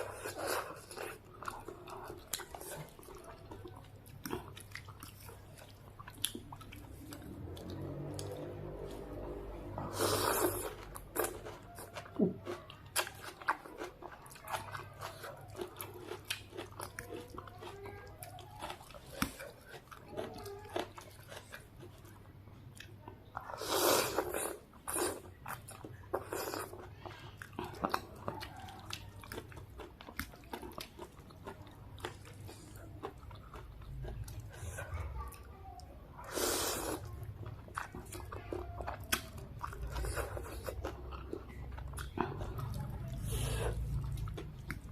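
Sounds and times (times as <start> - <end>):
chewing and wet mouth sounds: 0.0 - 44.9.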